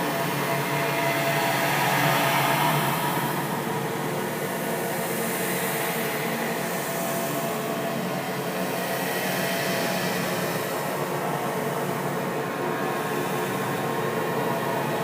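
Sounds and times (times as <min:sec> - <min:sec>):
eerie ambient drone: 0:00.0 - 0:15.0.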